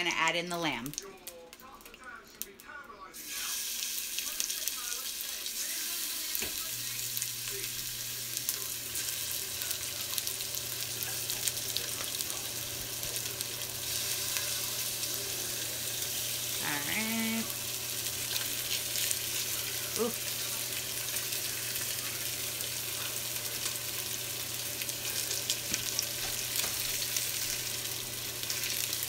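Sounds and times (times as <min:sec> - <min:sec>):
meat sizzling in oil: 0:03.2 - 0:29.0.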